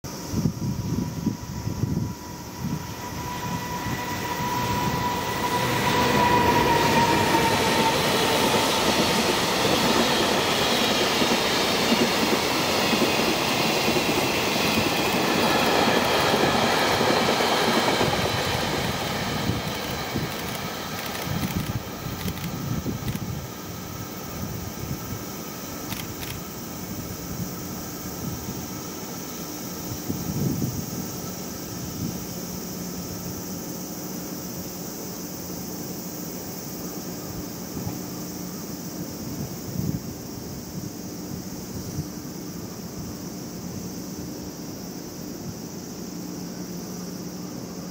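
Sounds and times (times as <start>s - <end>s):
freight train rolling past: 0.1s - 47.9s.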